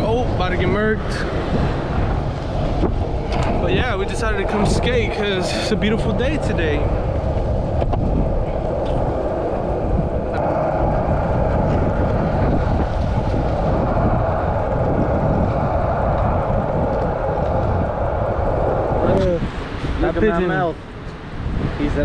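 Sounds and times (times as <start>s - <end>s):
skateboard wheels rolling on asphalt: 0.0s - 22.0s.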